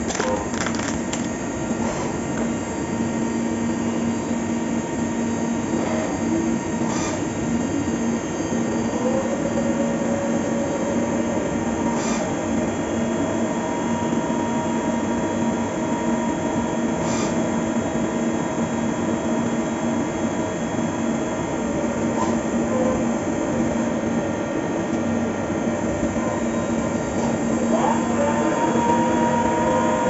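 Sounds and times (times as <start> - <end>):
milling machine drone: 0.0 - 30.0.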